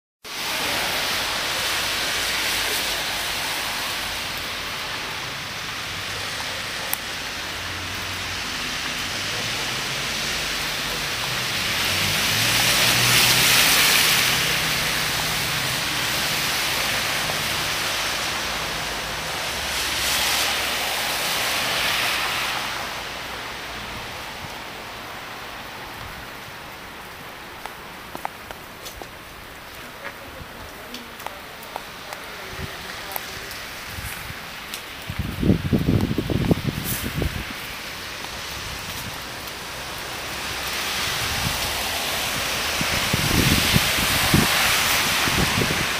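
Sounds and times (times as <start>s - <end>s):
wet snow and sleet falling: 0.2s - 45.9s
vehicle passing on slushy road: 0.3s - 45.9s.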